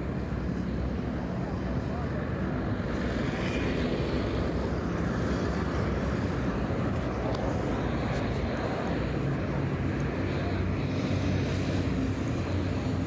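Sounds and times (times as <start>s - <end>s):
cars passing: 0.0s - 13.0s
motorbikes passing: 0.0s - 13.0s.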